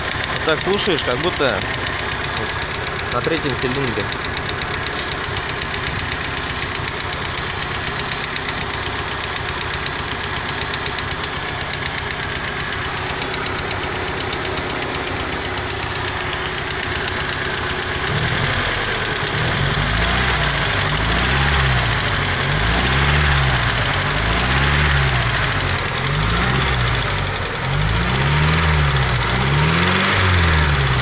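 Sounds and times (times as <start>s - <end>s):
petrol engine knocking: 0.0s - 31.0s.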